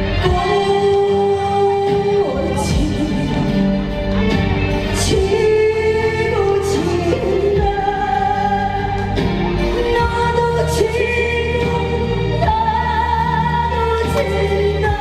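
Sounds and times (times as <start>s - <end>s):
woman singing into a microphone: 0.0s - 3.9s, 4.8s - 15.0s
amplified accompaniment with beat: 0.0s - 15.0s.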